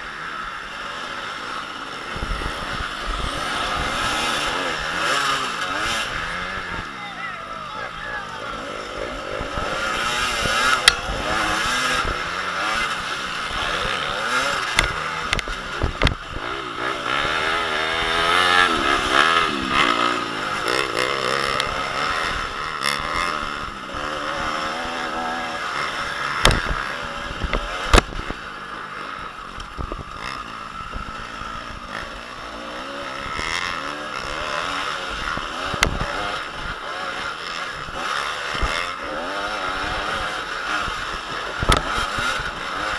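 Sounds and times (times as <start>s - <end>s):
motocross engines revving: 0.0s - 42.9s.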